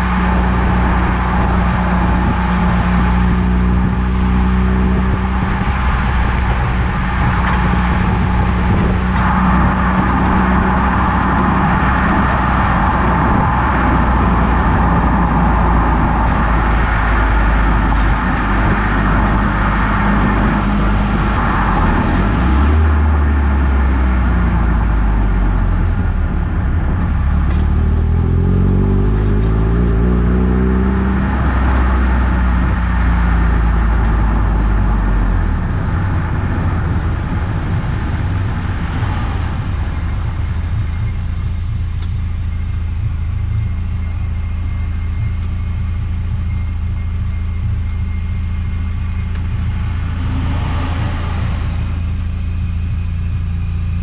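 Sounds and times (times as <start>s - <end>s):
car engine running: 0.0s - 54.0s
road noise: 0.0s - 54.0s.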